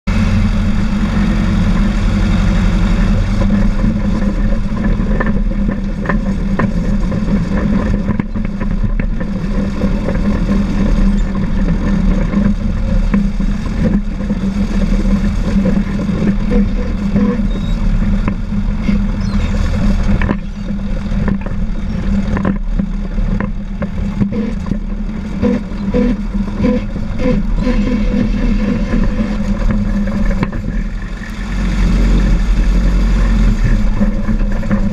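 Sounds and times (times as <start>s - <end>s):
bulldozer diesel engine running: 0.0s - 34.9s
steel tracks clanking: 0.1s - 34.9s.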